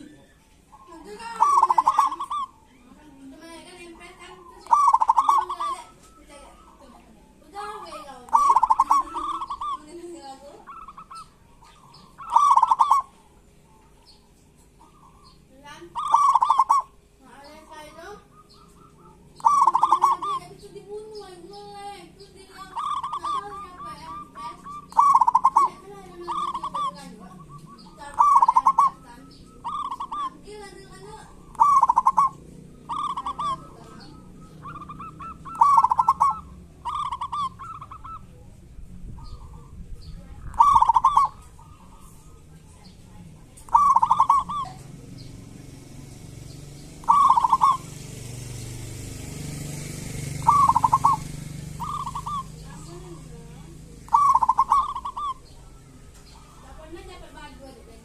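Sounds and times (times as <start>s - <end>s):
dove calling: 0.0s - 58.0s.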